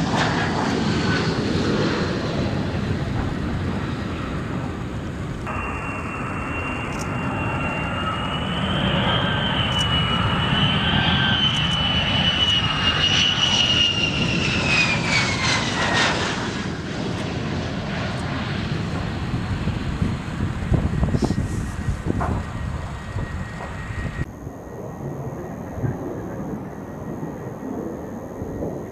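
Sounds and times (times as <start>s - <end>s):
jet engine rumble: 0.0s - 28.9s
jet engine whine: 0.0s - 28.9s.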